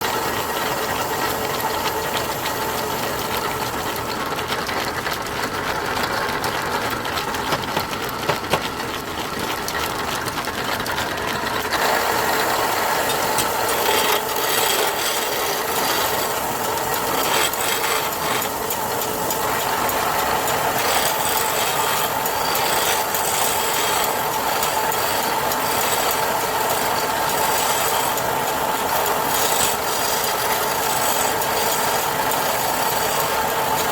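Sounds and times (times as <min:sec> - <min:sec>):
lathe motor humming: 0:00.0 - 0:33.9
tool cutting spinning wood: 0:00.0 - 0:33.9.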